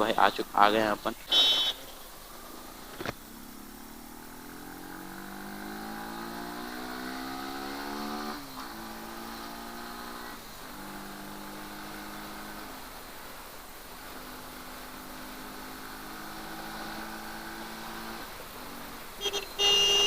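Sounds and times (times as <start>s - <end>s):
motorcycle engine accelerating: 2.2s - 20.0s.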